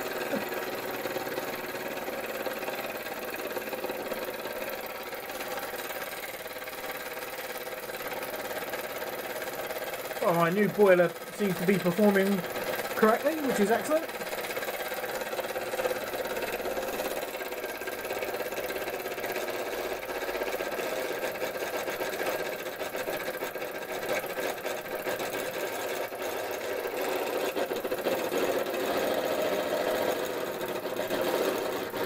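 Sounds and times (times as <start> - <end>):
toy steam engine rattling: 0.0 - 32.0.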